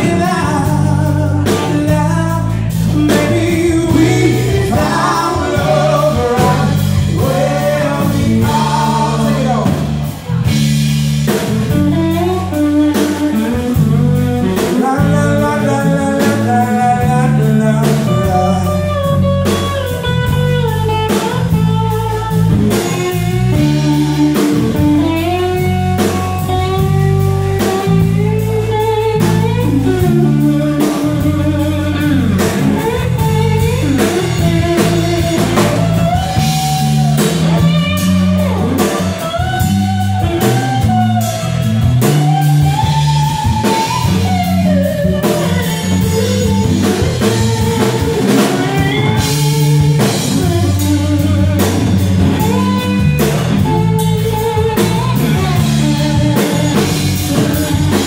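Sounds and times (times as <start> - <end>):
electric guitar lead melody: 0.0 - 58.0
live band playing: 0.0 - 58.0.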